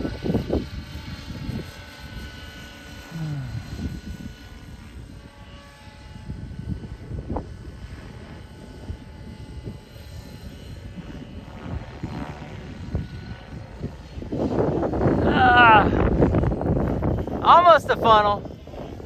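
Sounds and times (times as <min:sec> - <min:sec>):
rc helicopter rotor and motor whine: 0:00.0 - 0:19.0.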